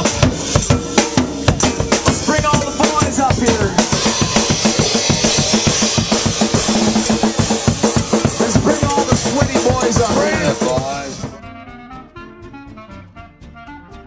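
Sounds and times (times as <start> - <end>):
cymbals washing: 0.0 - 11.4
bass drum and snare beat: 0.0 - 13.8
live band playing: 0.0 - 14.0.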